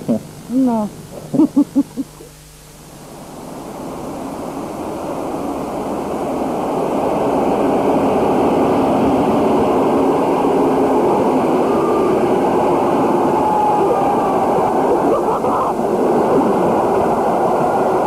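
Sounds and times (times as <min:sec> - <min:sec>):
passenger train running past: 0:03.2 - 0:18.0.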